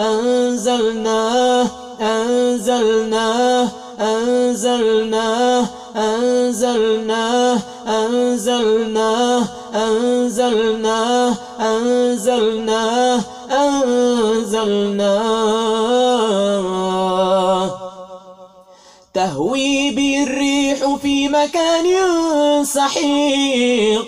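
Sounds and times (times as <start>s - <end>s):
man chanting melodically: 0.0s - 18.2s, 19.2s - 24.0s.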